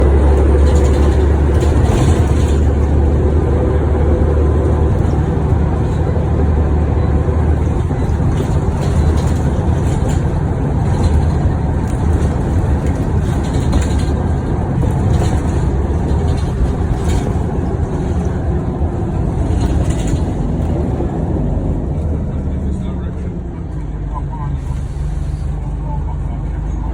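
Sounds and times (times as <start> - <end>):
light rattles: 0.0 - 22.5
bus engine deep rumble: 0.0 - 26.9.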